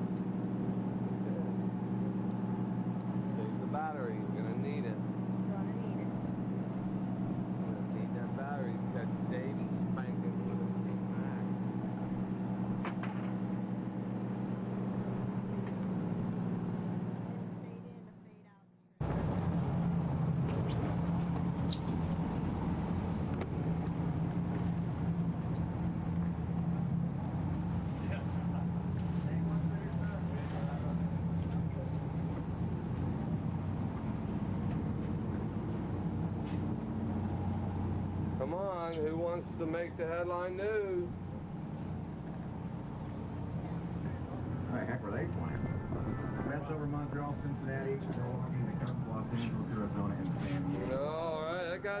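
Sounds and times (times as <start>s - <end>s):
engine droning steadily: 0.0s - 52.0s.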